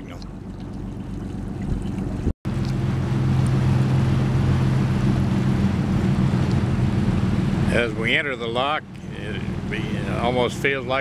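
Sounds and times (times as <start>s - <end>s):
boat engine running: 0.0s - 11.0s
wind and water rushing: 0.0s - 11.0s.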